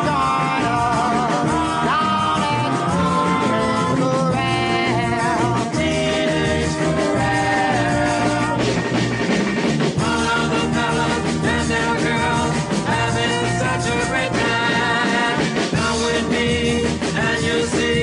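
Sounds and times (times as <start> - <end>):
singing over full band: 0.0 - 18.0.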